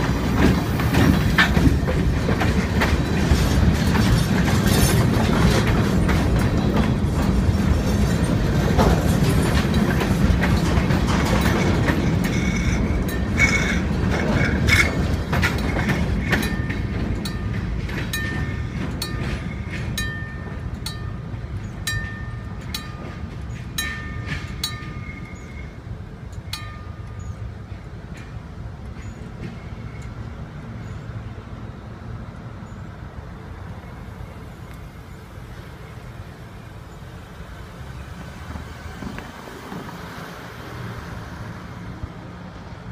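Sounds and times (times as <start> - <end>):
train wheels clattering on rails: 0.0 - 31.4, 37.2 - 42.9.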